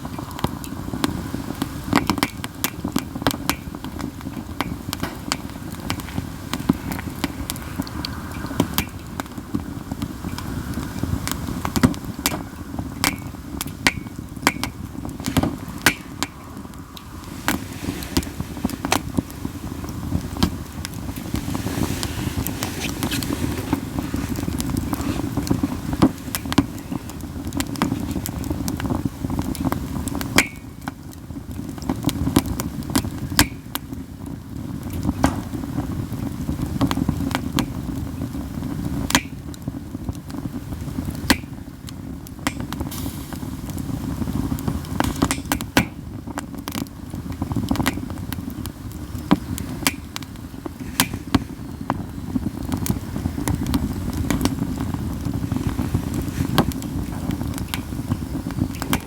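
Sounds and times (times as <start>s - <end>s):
campfire crackling and popping: 0.0s - 59.0s
low rumble of fire: 0.0s - 59.0s.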